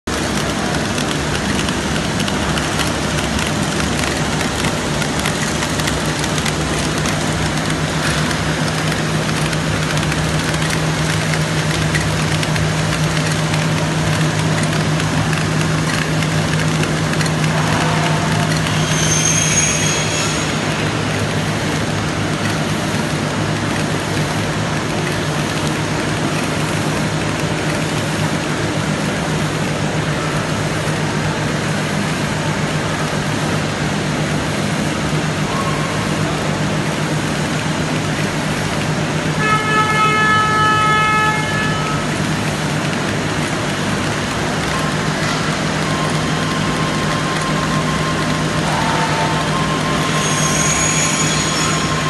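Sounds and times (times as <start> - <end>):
packaging machine running: 0.1 - 52.0.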